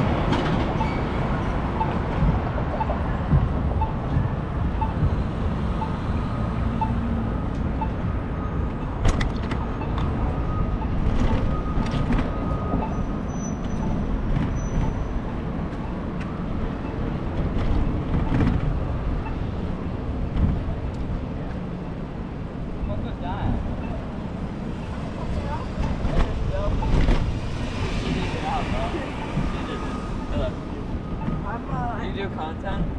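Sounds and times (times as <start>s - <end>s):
traffic: 0.0s - 32.9s.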